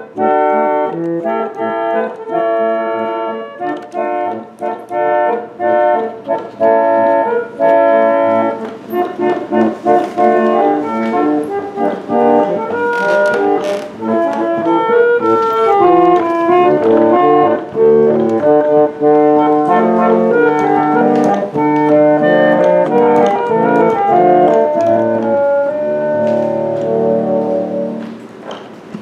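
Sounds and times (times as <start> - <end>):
reed organ playing chords: 0.0 - 28.4.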